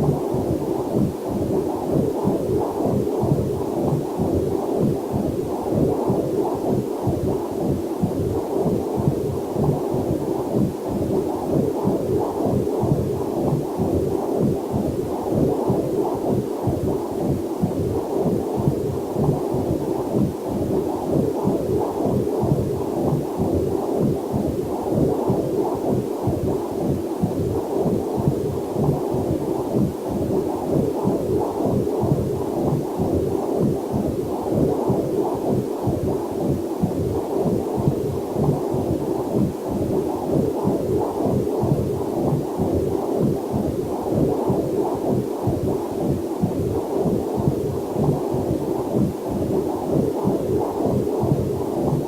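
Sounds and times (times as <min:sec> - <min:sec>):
whooshing heartbeat pulses: 0:00.0 - 0:52.0.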